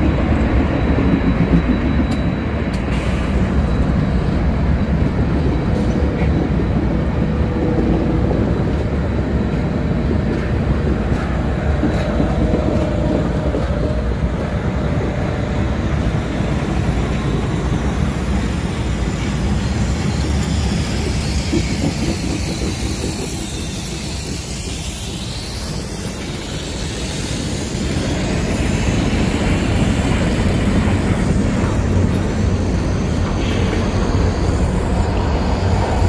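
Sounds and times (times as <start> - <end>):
diesel locomotive engine rumble: 0.0 - 36.0
wheels on rail: 0.0 - 36.0.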